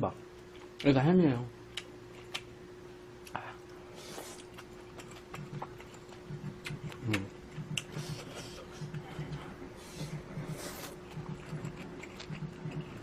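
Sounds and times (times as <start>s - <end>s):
faint steady hum: 0.0s - 13.0s
soft chewing: 1.7s - 2.6s, 3.2s - 13.0s.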